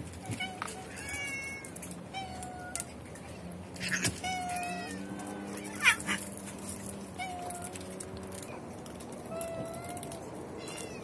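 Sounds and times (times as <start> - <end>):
cats meowing: 0.1 - 8.6, 9.2 - 11.0.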